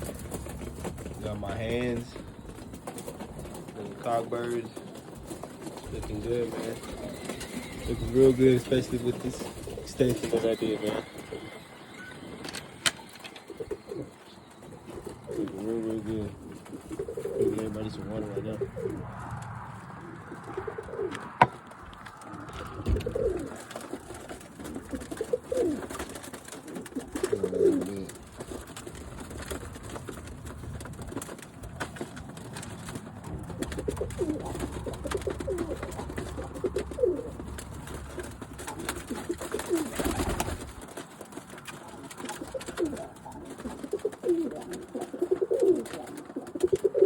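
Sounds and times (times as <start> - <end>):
pigeons cooing: 0.0 - 47.0.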